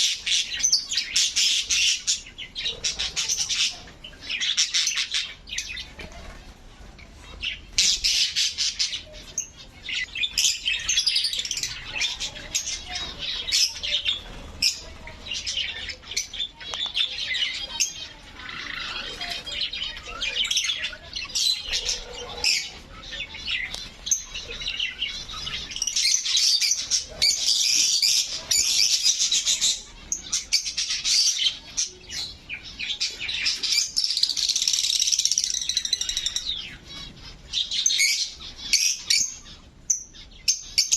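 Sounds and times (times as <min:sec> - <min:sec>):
caged birds chirping and squawking: 0:00.0 - 0:40.9.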